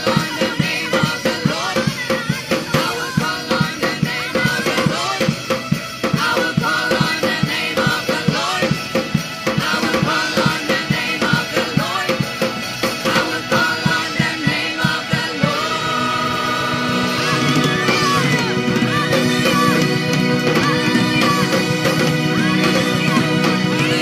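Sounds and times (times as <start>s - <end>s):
voices singing: 0.0s - 24.0s
worship band playing: 0.0s - 24.0s.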